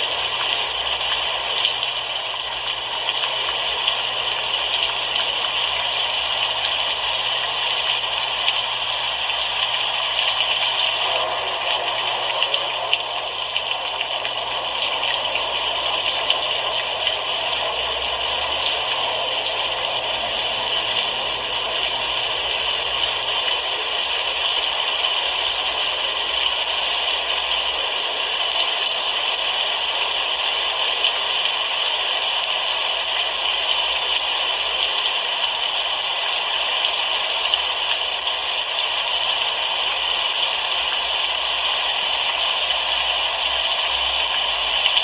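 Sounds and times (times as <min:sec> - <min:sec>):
steady rain pattering: 0:00.0 - 0:45.0.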